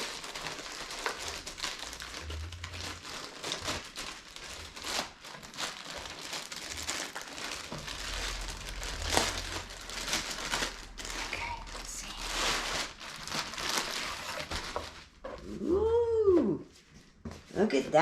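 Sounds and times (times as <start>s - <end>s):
packaging bag crinkling: 0.0s - 15.7s.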